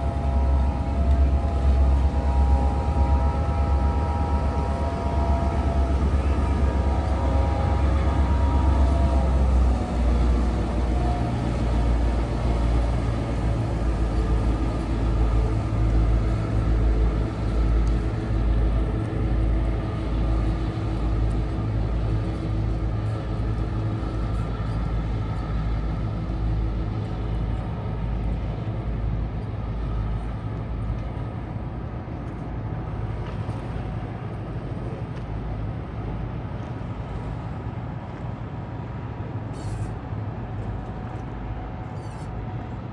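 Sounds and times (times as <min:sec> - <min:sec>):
boat diesel engine rumbling: 0:00.0 - 0:42.9.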